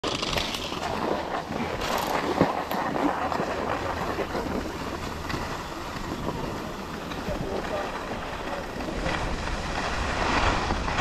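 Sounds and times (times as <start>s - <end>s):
skis scraping over snow: 0.0s - 11.0s
wind on microphone: 0.8s - 11.0s.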